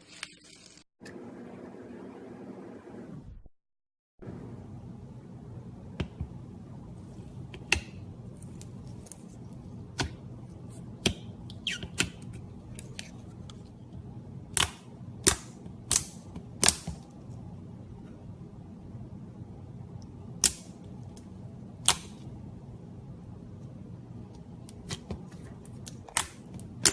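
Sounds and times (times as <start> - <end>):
steady low hum: 4.2 - 26.9.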